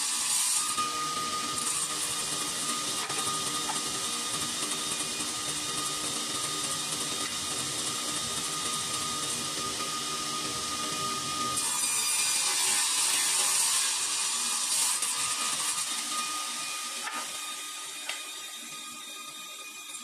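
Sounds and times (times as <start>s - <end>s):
table saw running: 0.0s - 20.0s.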